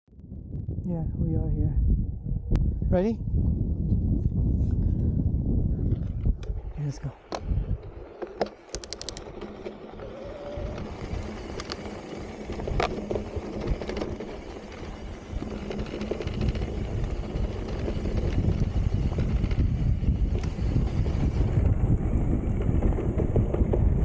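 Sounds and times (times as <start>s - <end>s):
wind rumbling on microphone: 0.1s - 24.0s
bike tyres rolling over dirt: 4.6s - 24.0s.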